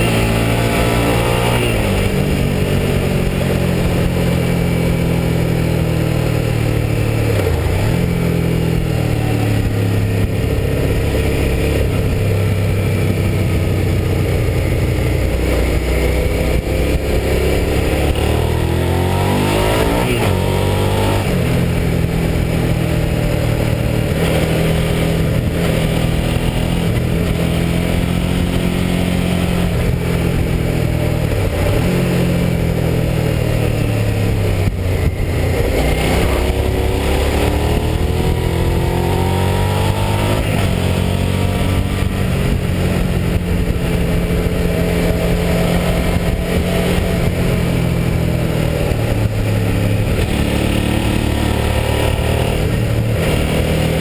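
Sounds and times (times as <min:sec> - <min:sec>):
motorcycle engine revving: 0:00.0 - 0:54.0
steady wind noise: 0:00.0 - 0:54.0.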